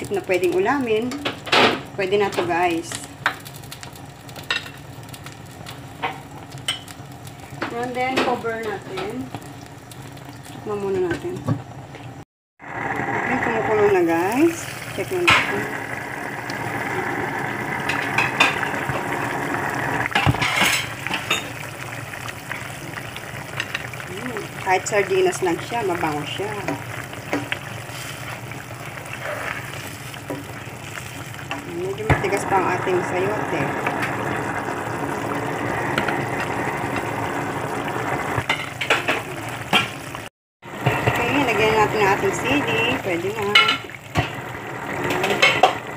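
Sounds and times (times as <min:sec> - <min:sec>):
broth boiling: 0:00.0 - 0:45.9.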